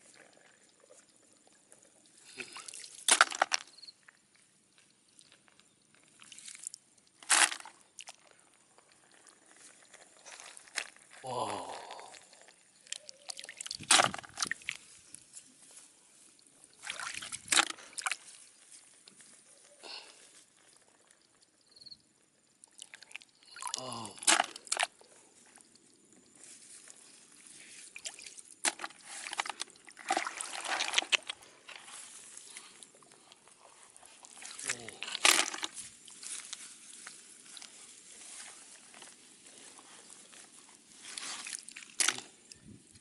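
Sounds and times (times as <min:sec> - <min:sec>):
water sloshing and trickling: 0:00.0 - 0:11.2, 0:12.1 - 0:19.6, 0:22.4 - 0:43.0.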